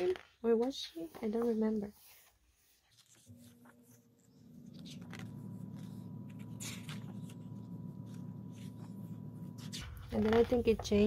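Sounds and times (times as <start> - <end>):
paper pages rustling: 0.0 - 11.0
steady low hum: 0.0 - 11.0.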